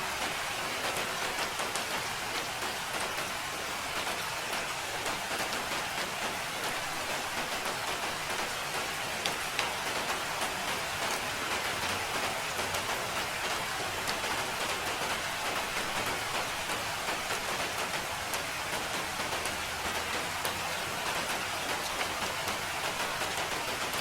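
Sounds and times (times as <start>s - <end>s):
rain drops ticking on a surface: 0.0s - 24.0s.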